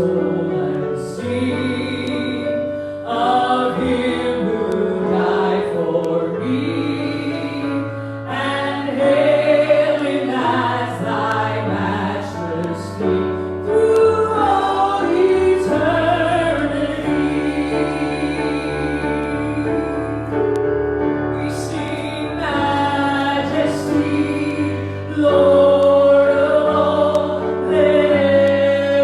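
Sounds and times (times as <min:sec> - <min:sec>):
choir singing worship song: 0:00.0 - 0:29.0.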